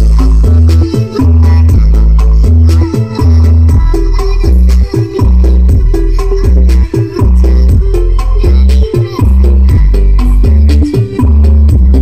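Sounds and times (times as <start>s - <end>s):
loud bass-heavy music: 0.0s - 12.0s.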